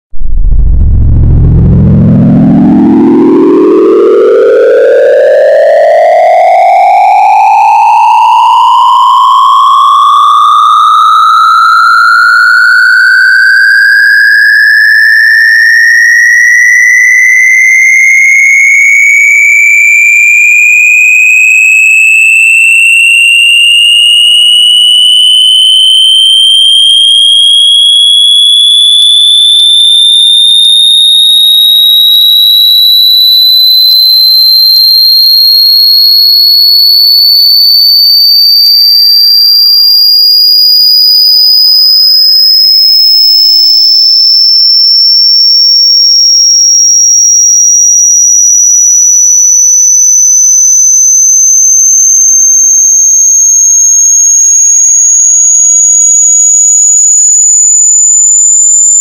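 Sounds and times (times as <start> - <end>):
electronic test tone sweeping upward: 0.2 - 59.0.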